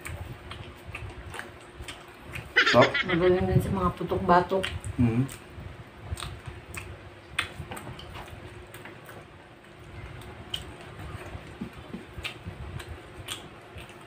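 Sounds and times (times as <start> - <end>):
people chewing and lip smacking: 0.0 - 2.6, 4.6 - 14.0
faint steady hum: 0.0 - 14.0.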